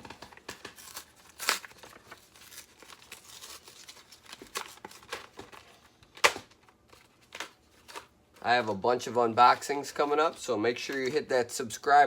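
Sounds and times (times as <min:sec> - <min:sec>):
plastic packaging crinkling: 0:00.0 - 0:11.3.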